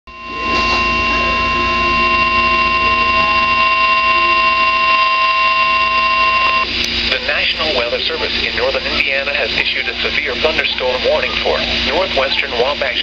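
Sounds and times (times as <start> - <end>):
weather radio alarm tone: 0.1 - 13.0.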